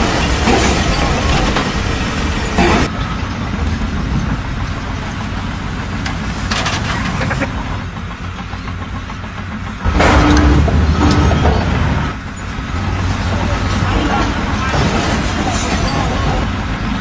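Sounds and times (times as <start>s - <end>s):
heavy engine rumbling: 0.0s - 17.0s.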